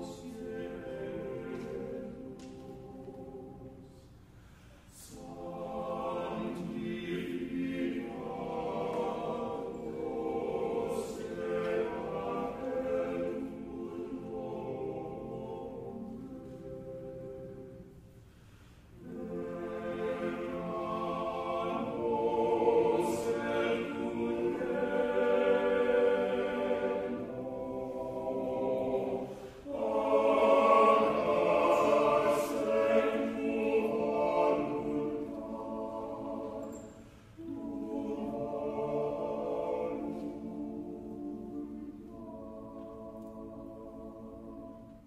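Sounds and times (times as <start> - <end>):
choir singing held chords: 0.0 - 45.0.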